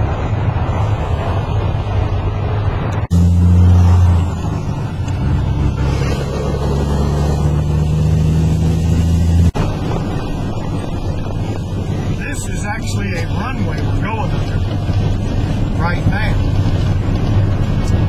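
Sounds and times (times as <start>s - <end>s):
roadside traffic rumble: 0.0s - 18.0s
steady engine drone: 0.0s - 18.0s.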